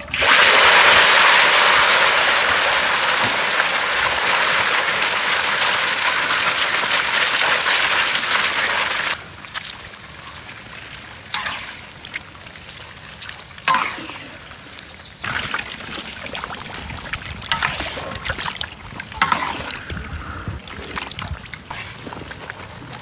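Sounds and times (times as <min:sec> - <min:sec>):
egg sizzling in hot oil: 0:00.2 - 0:14.1, 0:14.7 - 0:23.0.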